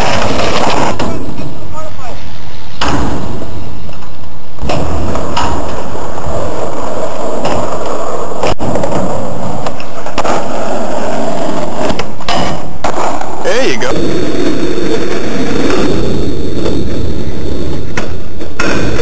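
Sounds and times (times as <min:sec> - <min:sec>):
skateboard wheels rumbling: 0:00.0 - 0:19.0.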